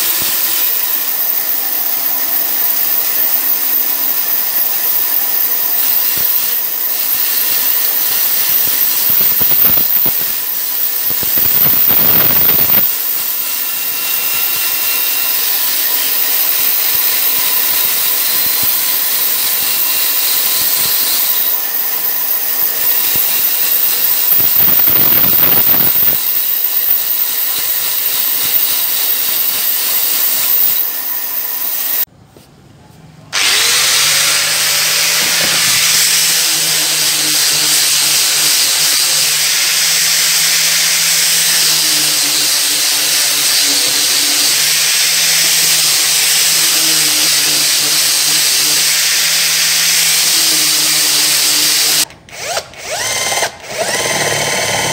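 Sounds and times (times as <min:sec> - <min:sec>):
angle grinder sanding wood: 0:00.0 - 0:32.1, 0:33.4 - 0:52.1
band saw cutting wood: 0:00.0 - 0:32.1, 0:33.3 - 0:54.9.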